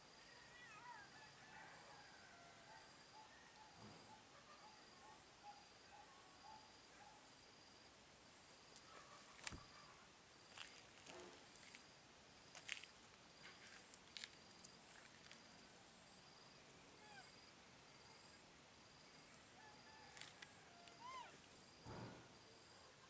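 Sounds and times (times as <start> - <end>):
faint high insect chirp: 0.0 - 23.0.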